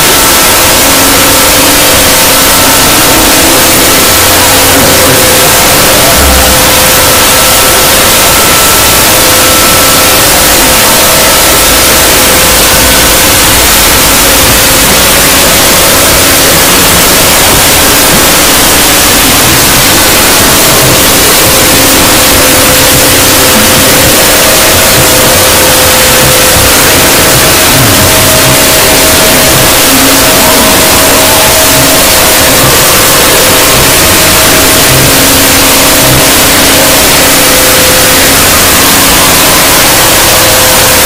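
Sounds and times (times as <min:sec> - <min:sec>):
harsh static-like noise: 0:00.0 - 0:41.0.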